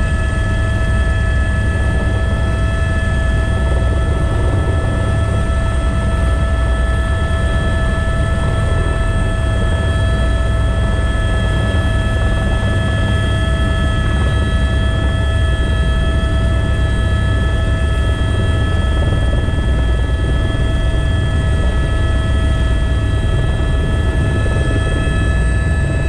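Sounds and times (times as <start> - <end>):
helicopter low rumble: 0.0 - 26.0
helicopter turbine whine: 0.0 - 26.0.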